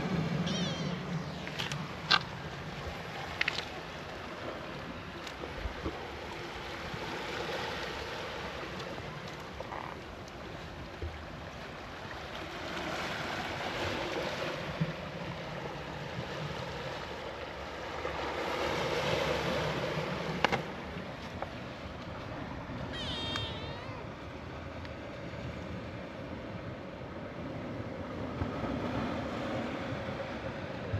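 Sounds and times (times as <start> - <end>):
sea waves washing on shore: 0.0 - 30.9.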